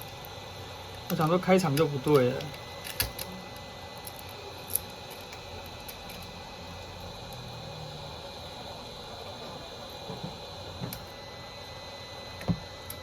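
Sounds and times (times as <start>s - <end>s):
faint high whine: 0.0s - 13.0s
room hum: 0.0s - 13.0s.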